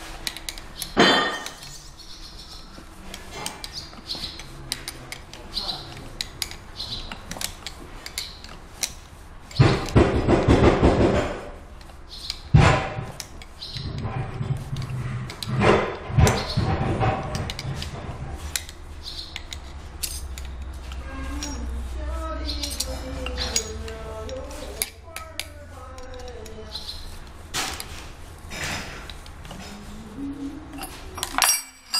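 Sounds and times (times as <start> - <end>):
metal tools clinking and scraping: 0.0 - 10.0, 11.2 - 30.0, 30.6 - 31.9.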